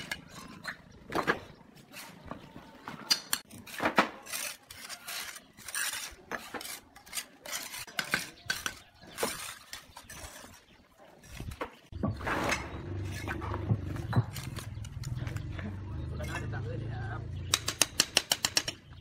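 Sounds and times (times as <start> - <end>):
trowel scraping and tapping bricks: 0.0 - 16.4, 17.5 - 19.0.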